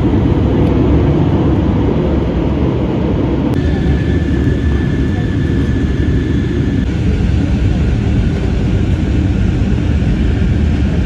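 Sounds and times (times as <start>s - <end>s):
airliner cabin jet engine rush: 0.0s - 11.0s.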